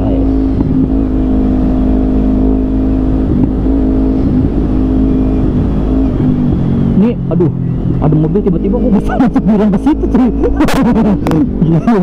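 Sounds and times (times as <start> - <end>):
motorcycle engine cruising: 0.0 - 12.0
wind rumble on microphone: 0.0 - 12.0.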